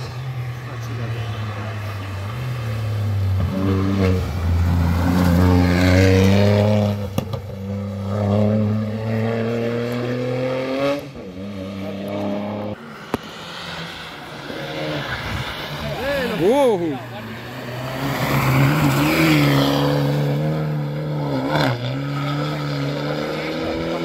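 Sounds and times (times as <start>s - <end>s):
rally car engine accelerating: 0.0s - 24.0s.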